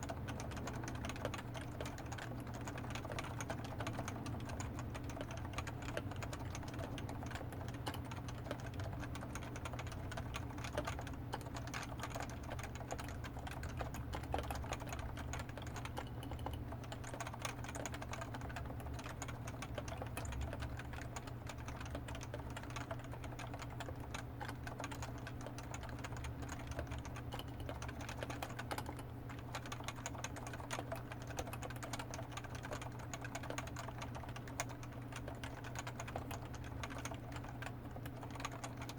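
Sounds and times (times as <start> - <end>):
keyboard typing: 0.0 - 38.9.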